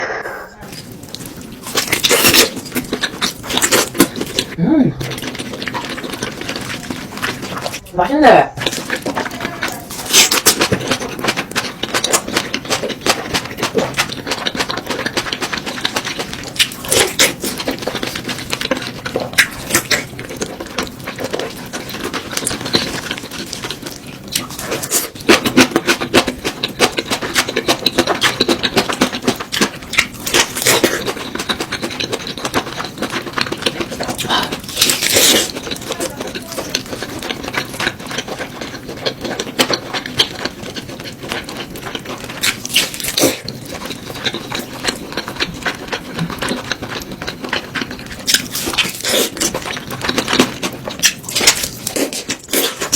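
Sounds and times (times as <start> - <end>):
crackly chewing and mouth clicks: 0.6 - 52.9.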